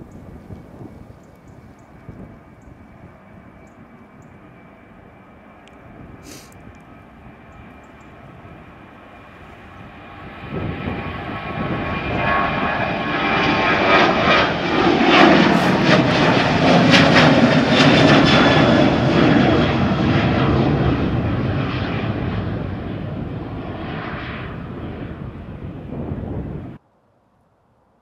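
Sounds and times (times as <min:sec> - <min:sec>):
jet engines roaring overhead: 0:00.0 - 0:26.8.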